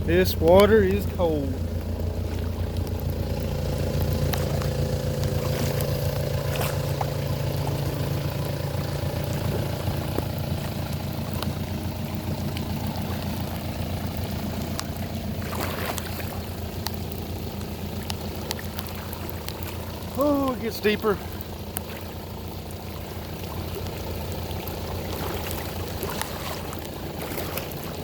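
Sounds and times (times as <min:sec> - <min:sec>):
diesel engine idling: 0:00.0 - 0:28.0
water swishing: 0:00.0 - 0:28.0.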